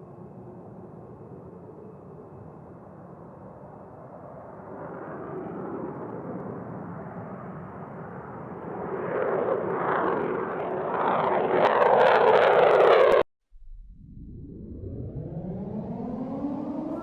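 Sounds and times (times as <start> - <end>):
fighter jet engine: 0.0 - 13.3, 14.3 - 17.0.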